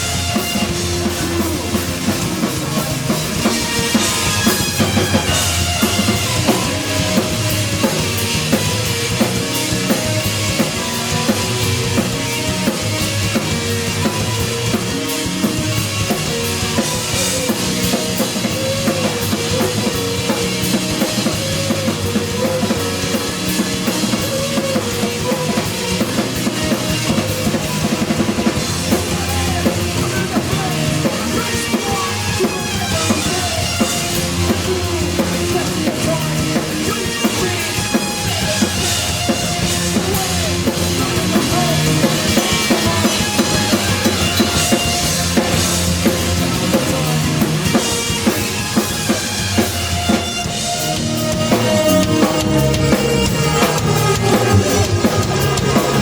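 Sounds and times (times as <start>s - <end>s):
drum kit: 0.0s - 56.0s
live rock band playing: 0.0s - 56.0s.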